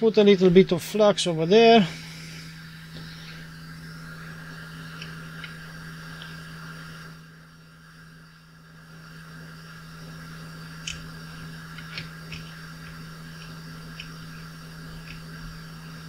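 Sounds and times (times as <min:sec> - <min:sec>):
small fan humming: 0:00.0 - 0:16.0.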